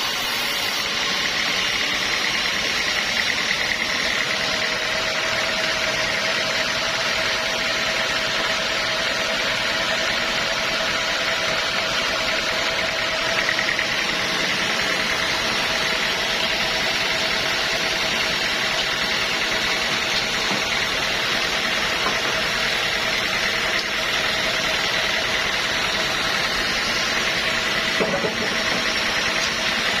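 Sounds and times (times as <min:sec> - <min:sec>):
high steady machine whine: 0:00.0 - 0:30.0
sawmill machinery hum: 0:00.0 - 0:30.0.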